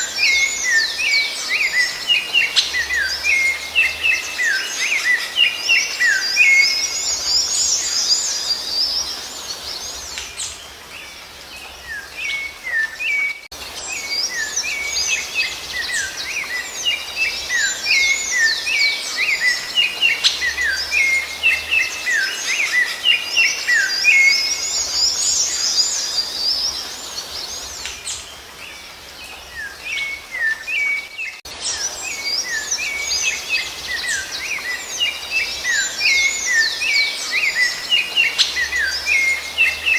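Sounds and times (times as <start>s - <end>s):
birds chirping and whistling: 0.0s - 39.9s.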